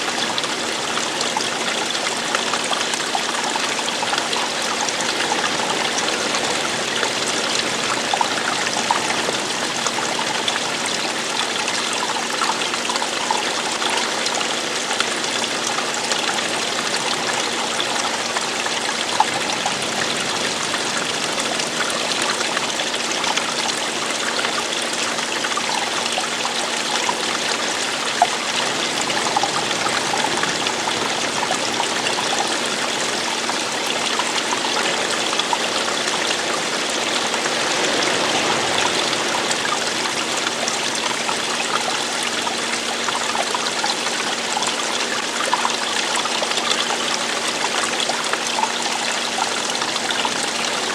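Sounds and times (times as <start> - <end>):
stream water rushing: 0.0 - 50.9
water trickling splashes: 0.0 - 50.9.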